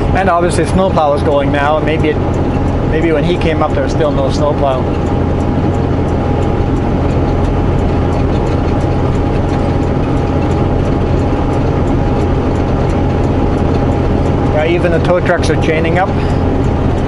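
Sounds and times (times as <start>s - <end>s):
diesel engine rumble: 0.0s - 17.0s
faint ticking: 0.0s - 17.0s
steady hum: 0.0s - 17.0s.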